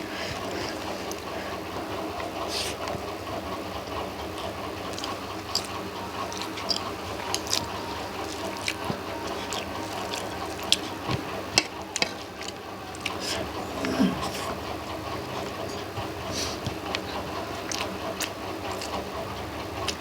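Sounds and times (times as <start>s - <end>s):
electric fan humming: 0.0s - 20.0s
wet chewing and mouth smacks: 0.0s - 20.0s.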